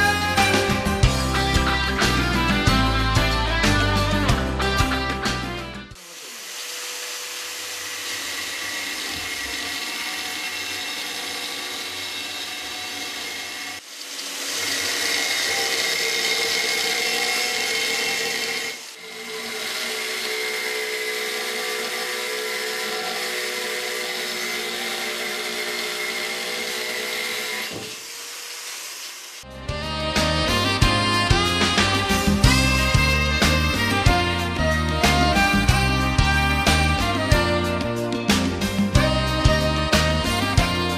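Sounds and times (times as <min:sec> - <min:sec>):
angle grinder cutting glass: 0:00.0 - 0:40.9.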